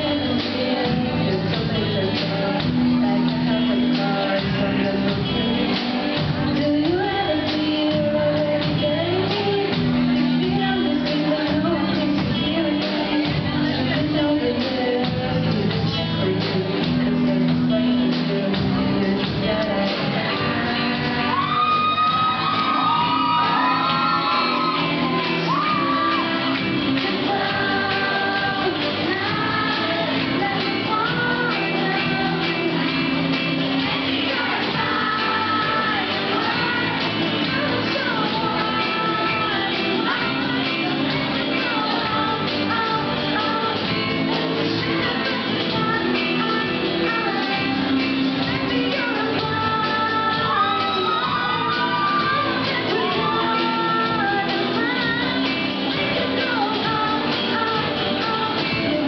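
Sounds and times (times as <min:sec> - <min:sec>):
live pop band playing: 0:00.0 - 0:59.0
woman singing: 0:00.0 - 0:59.0.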